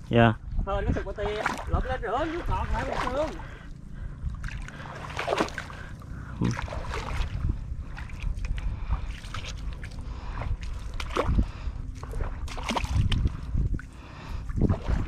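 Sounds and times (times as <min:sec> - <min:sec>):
feet splashing through water: 0:01.1 - 0:15.0.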